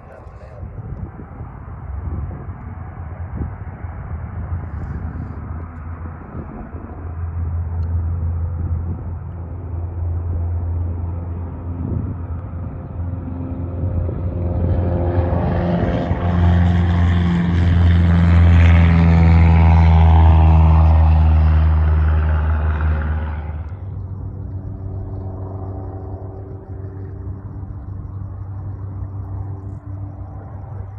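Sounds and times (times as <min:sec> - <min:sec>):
aircraft engine rumble passing: 0:00.0 - 0:30.9.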